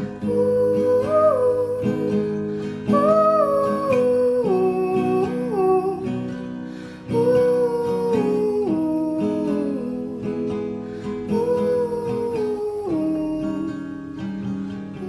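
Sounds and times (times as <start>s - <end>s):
person singing: 0.0s - 6.4s, 7.0s - 10.7s, 11.3s - 14.2s
acoustic guitar chords: 0.0s - 15.0s.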